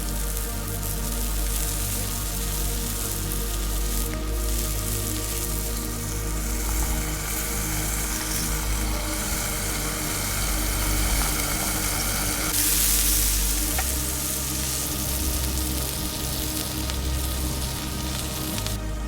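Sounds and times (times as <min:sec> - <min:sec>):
background music: 0:00.0 - 0:19.0
food sizzling in a pan: 0:00.0 - 0:19.0.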